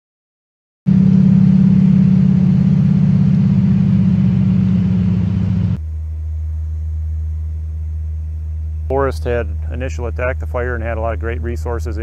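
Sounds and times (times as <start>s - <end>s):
low steady hum: 0.9s - 12.0s
propeller plane engine droning: 0.9s - 12.0s.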